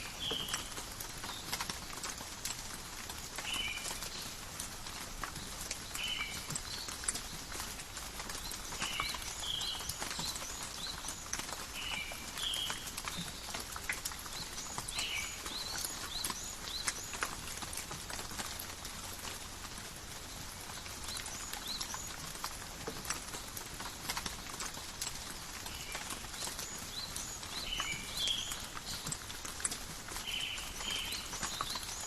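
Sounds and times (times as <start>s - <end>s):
drops and drips ticking: 0.0s - 32.0s
rain falling in a forest: 0.0s - 32.0s.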